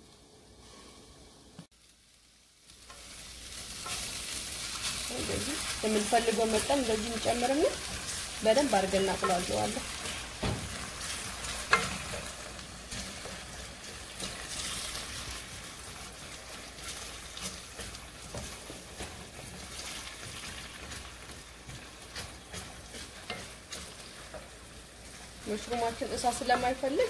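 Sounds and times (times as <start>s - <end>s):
onion sizzling in oil: 0.0s - 27.0s
wooden spoon scraping a pan: 2.9s - 27.0s.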